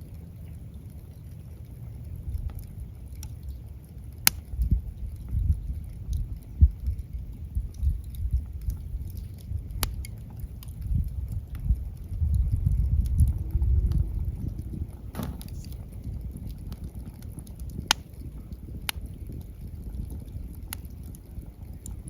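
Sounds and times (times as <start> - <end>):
low rumble of flames: 0.0 - 22.0
wood fire crackling: 0.0 - 22.0
fire popping: 0.1 - 22.0.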